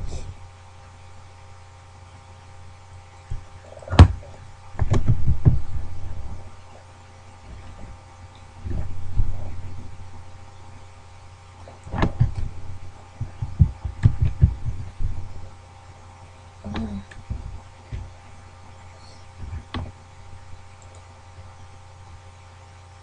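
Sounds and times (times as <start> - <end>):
mains hum: 0.0 - 23.0.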